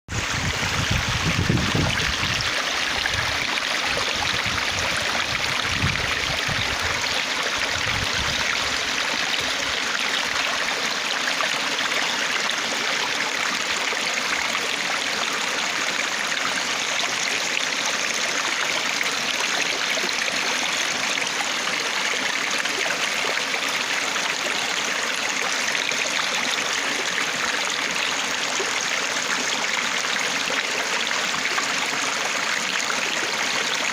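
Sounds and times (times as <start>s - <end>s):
stream water flowing: 0.1s - 33.9s.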